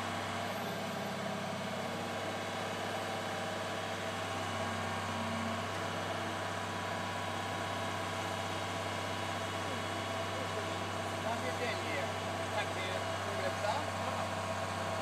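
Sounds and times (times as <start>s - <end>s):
crane engine idling: 0.0s - 15.0s.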